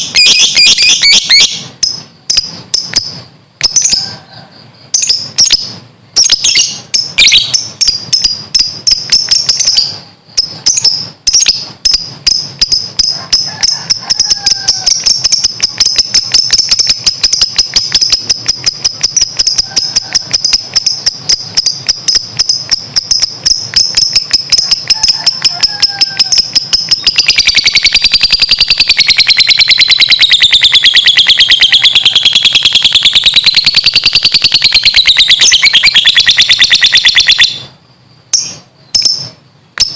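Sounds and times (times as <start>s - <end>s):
lovebird rapid high chirps: 0.0s - 4.2s, 4.8s - 39.9s.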